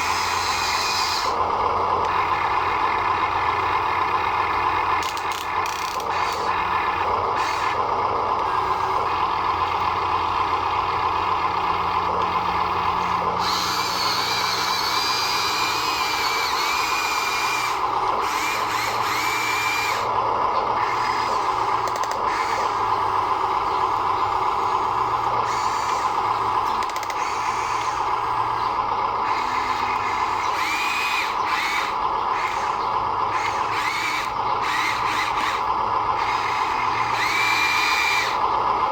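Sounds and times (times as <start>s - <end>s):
high-pitched motor squeals: 0.0s - 9.4s, 11.9s - 38.6s
small electric motors whining: 0.0s - 38.9s.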